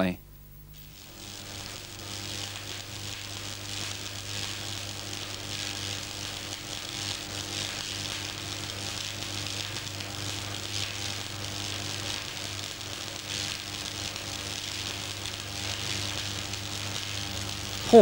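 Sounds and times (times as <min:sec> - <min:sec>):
welding arc crackling: 0:00.6 - 0:18.0.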